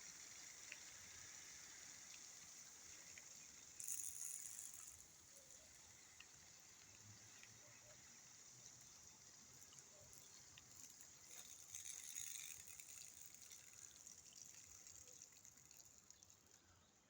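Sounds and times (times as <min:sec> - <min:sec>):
faint rain hissing: 0:00.0 - 0:17.0
light drip ticks: 0:00.0 - 0:17.0.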